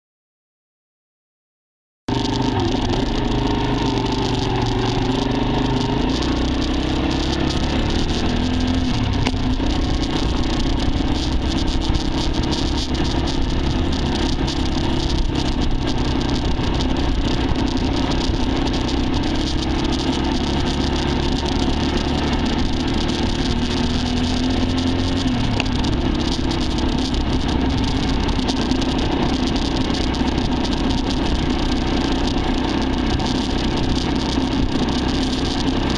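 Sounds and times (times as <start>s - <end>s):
dirt bike engine running: 2.1s - 35.9s
steady rushing noise: 2.1s - 35.9s.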